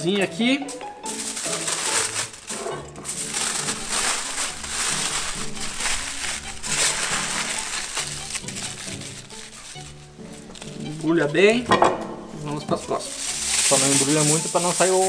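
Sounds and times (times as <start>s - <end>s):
aluminium foil crinkling: 0.7s - 11.6s, 12.5s - 15.0s.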